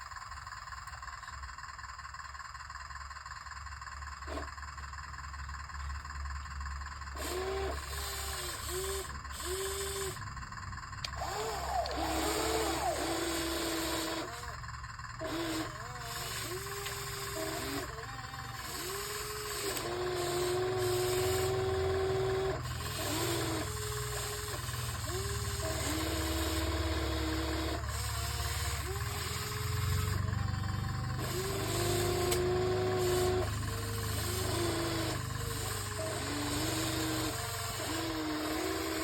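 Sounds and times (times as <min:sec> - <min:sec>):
electric motors whining: 0:04.2 - 0:06.4, 0:07.0 - 0:39.0.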